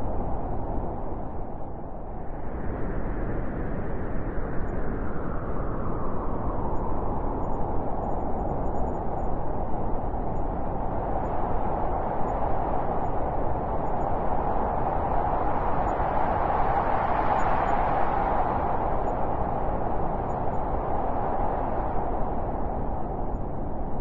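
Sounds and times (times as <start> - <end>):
wind blowing in gusts: 0.0 - 24.0.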